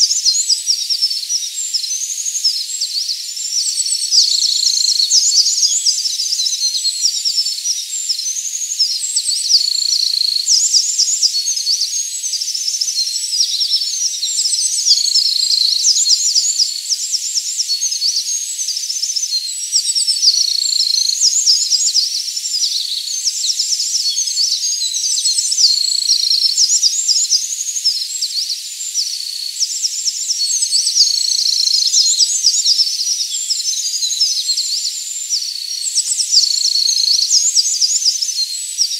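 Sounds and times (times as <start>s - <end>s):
wren singing high trills: 0.0s - 38.9s.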